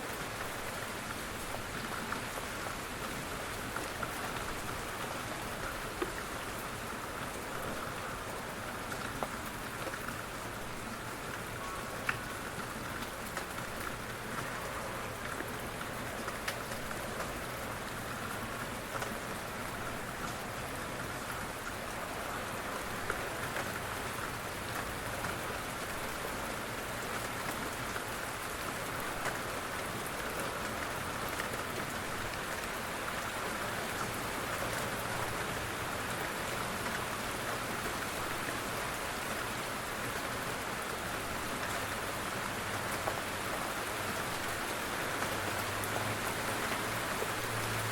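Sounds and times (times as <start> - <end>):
rain pattering: 0.0 - 47.9.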